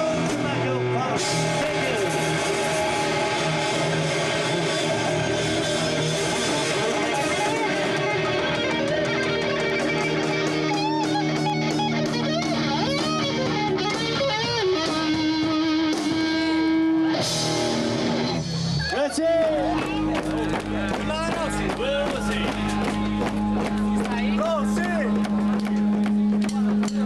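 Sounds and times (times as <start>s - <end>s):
electric guitar lead: 0.0s - 27.0s
live rock band: 0.0s - 27.0s.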